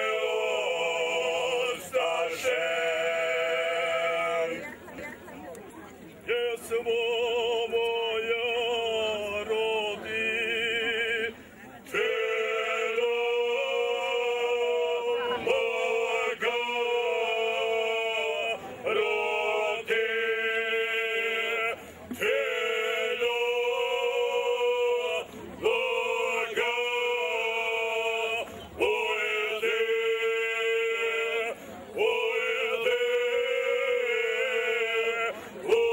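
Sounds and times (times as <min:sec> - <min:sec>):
men singing a cappella: 0:00.0 - 0:04.8, 0:06.3 - 0:35.9.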